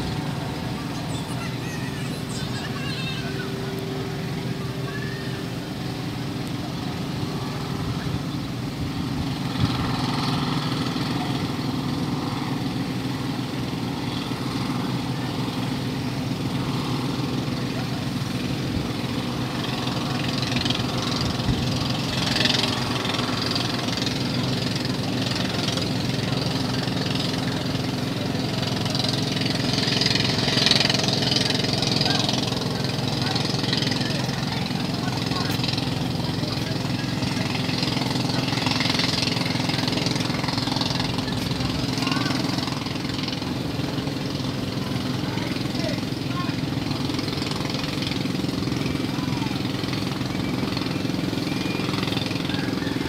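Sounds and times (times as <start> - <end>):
ship diesel engines idling: 0.0 - 53.0.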